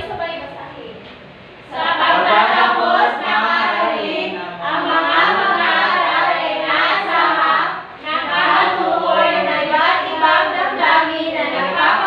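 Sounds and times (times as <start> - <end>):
group singing in unison: 1.7 - 12.0.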